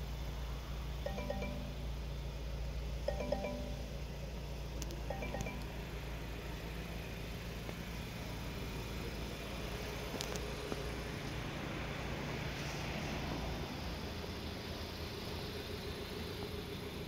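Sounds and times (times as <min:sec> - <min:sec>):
car engine idling: 0:00.0 - 0:12.4, 0:13.6 - 0:17.0.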